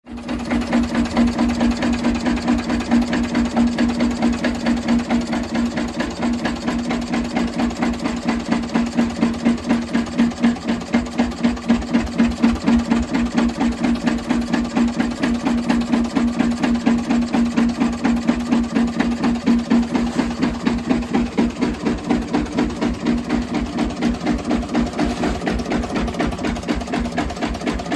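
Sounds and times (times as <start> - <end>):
diesel engine running: 0.1 - 27.9.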